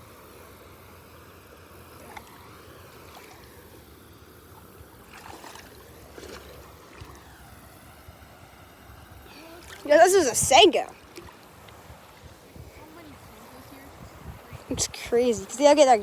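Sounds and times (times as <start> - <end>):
water lapping at shoreline: 0.0 - 16.0.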